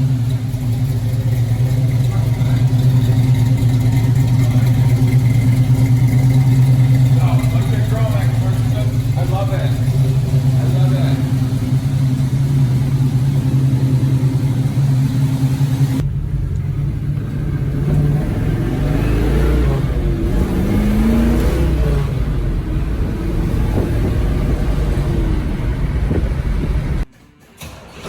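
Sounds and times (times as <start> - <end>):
car engine rumbling: 0.0 - 27.1.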